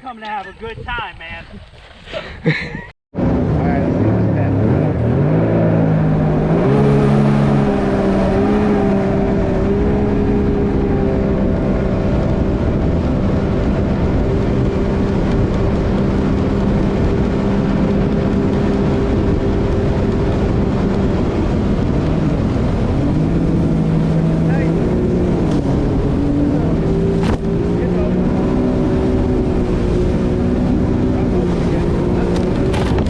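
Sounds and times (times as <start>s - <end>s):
jet ski engine running: 3.2s - 33.0s.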